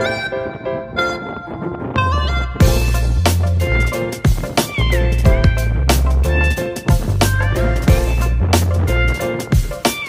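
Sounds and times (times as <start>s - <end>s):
higher line gliding down: 0.0s - 10.0s.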